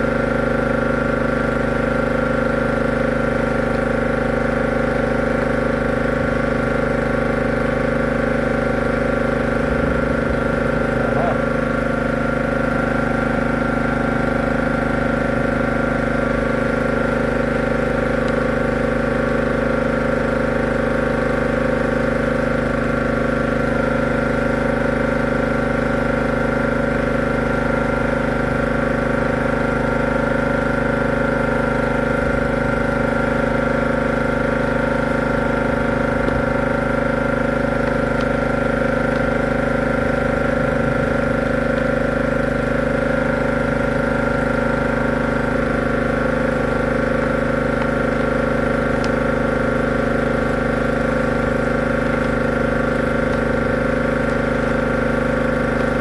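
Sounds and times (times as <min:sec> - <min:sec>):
machine motor humming: 0:00.4 - 0:20.4, 0:29.2 - 0:56.0.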